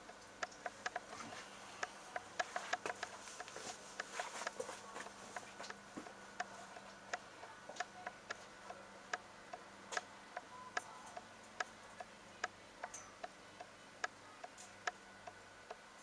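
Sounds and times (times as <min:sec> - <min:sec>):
faint low hum: 0:00.0 - 0:16.0
light rhythmic ticking: 0:00.0 - 0:16.0.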